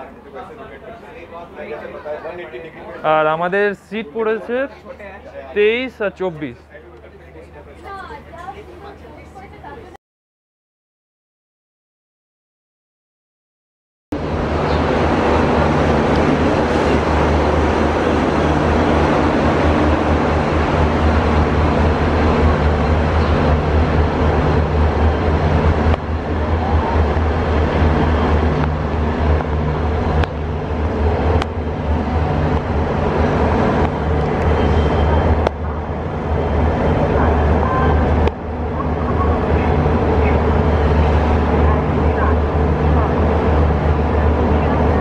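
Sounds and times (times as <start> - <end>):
diesel train rumbling: 0.0 - 9.9, 14.1 - 45.0.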